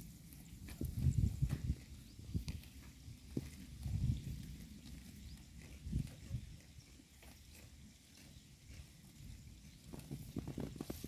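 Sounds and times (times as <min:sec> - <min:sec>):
cows munching grass: 0:00.0 - 0:11.0.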